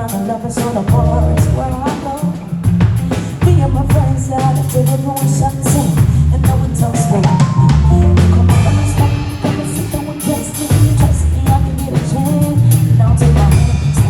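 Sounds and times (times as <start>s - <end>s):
drum kit: 0.0s - 14.0s
person singing: 0.0s - 14.0s
bass line: 0.9s - 1.8s, 2.7s - 14.0s.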